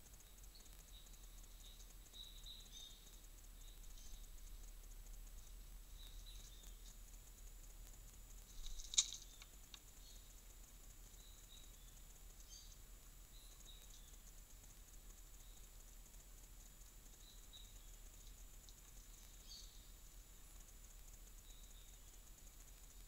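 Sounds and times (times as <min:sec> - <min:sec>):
faint forest ambience: 0:00.0 - 0:23.0
high ticks: 0:00.0 - 0:23.0.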